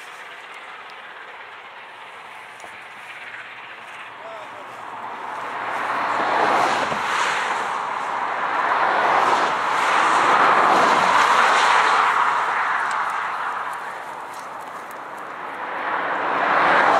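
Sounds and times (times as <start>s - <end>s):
road traffic passing: 0.0s - 16.9s.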